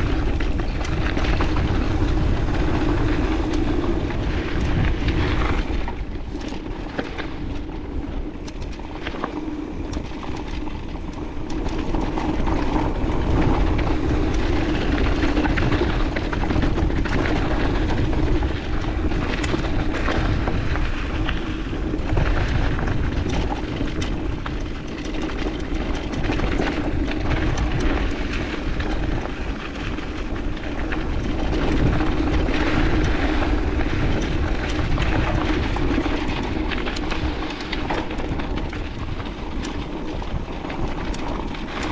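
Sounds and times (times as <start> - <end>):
bike rattling over bumps: 0.0 - 41.9
bike tyres rolling on dirt: 0.0 - 41.9
wind rushing over microphone: 0.0 - 41.9.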